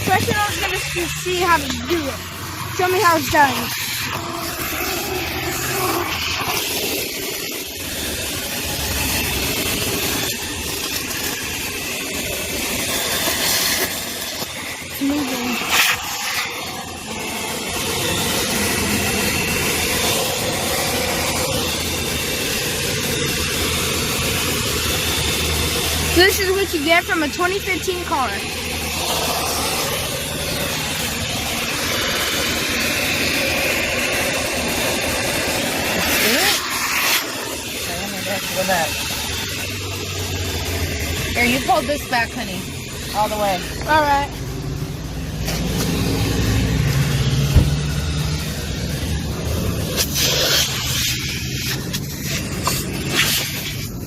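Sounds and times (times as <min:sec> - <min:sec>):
vacuum hose suction hiss: 0:00.0 - 0:54.0.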